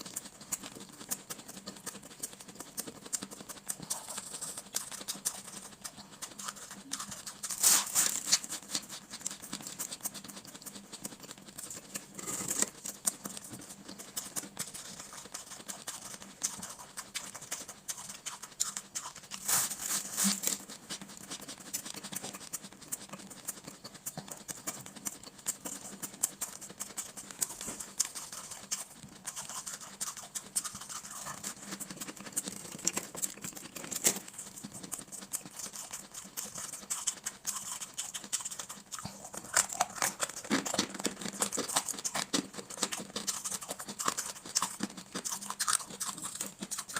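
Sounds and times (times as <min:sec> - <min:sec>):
chewing shaved ice: 0:00.0 - 0:46.9.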